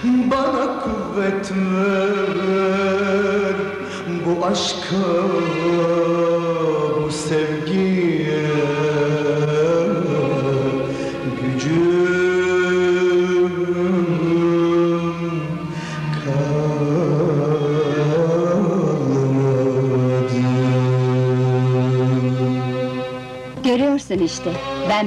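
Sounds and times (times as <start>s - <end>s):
man singing slow song: 0.0s - 23.1s
instrumental accompaniment: 0.0s - 25.0s.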